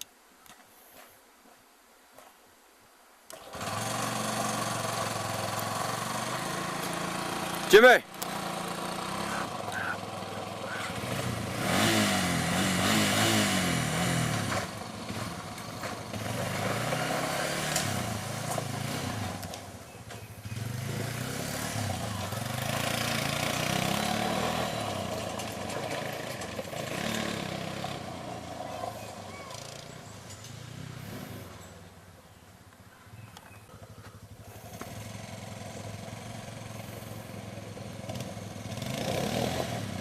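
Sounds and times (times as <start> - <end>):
vehicle engine revving: 3.3 - 32.0, 33.7 - 40.0.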